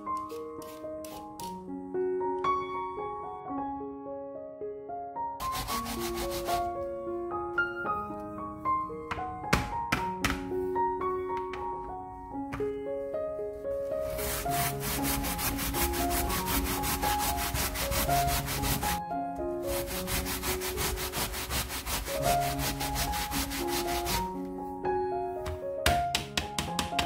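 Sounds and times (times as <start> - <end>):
background music: 0.0 - 27.0.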